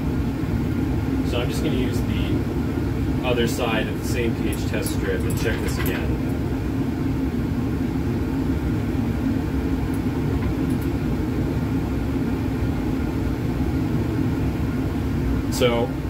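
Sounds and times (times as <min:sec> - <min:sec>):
fume hood ventilation rumble: 0:00.0 - 0:16.0.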